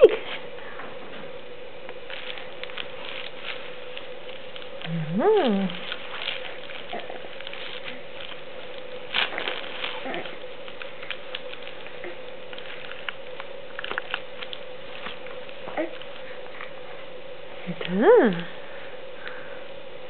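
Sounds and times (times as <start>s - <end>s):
steady faint hum: 0.0s - 20.0s.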